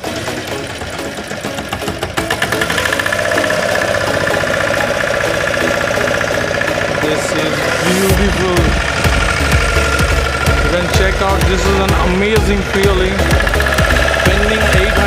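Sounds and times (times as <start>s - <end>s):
motorboat engine whine: 0.0s - 15.0s.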